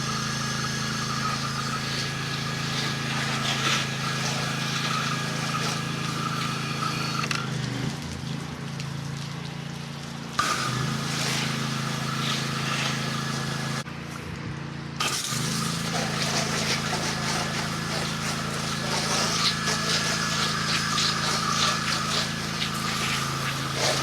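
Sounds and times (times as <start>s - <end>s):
water spray hissing: 0.0s - 9.3s, 10.4s - 13.9s, 15.0s - 24.0s
pressure washer engine humming: 0.0s - 24.0s.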